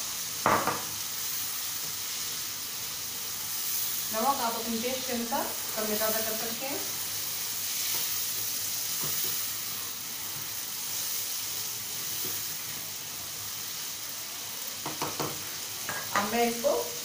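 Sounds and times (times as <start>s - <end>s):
chickpeas sizzling in oil: 0.0s - 17.0s.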